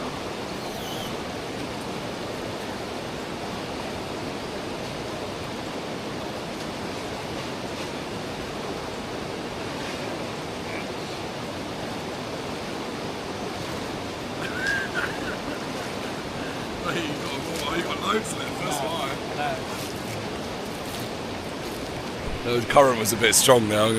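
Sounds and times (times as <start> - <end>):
river rushing: 0.0 - 23.9.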